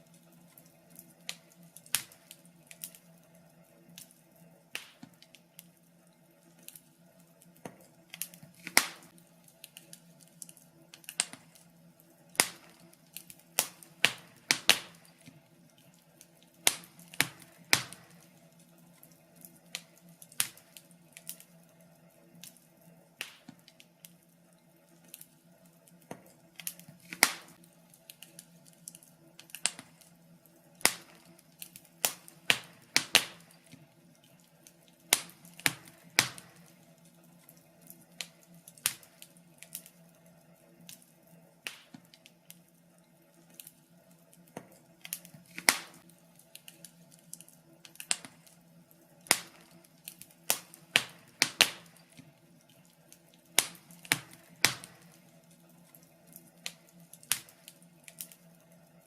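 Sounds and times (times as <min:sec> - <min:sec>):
fireplace crackling and popping: 0:00.0 - 0:59.0.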